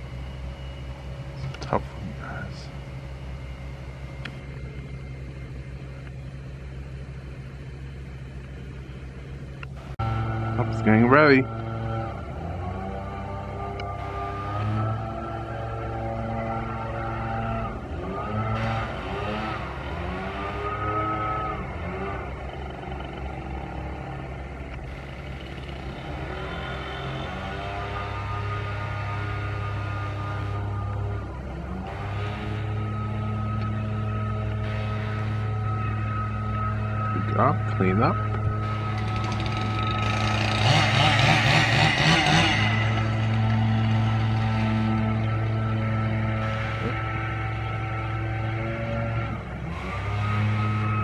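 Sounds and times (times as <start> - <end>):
large engine droning: 0.0 - 51.0.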